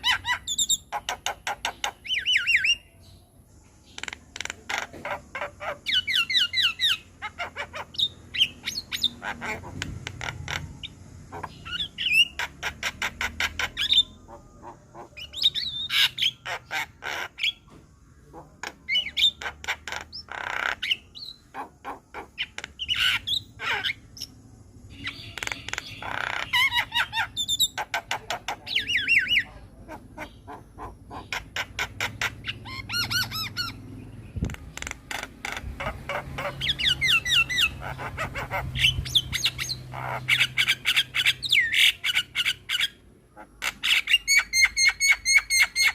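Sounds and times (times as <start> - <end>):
myna bird singing: 0.0 - 45.9.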